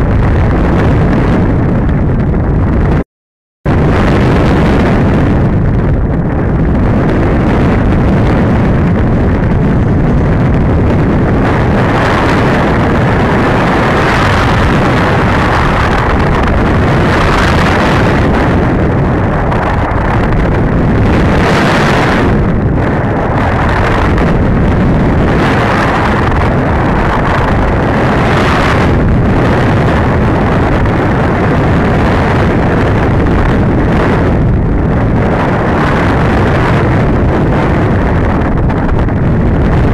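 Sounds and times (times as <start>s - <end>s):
wind rushing over microphone: 0.0s - 3.0s, 3.6s - 39.9s.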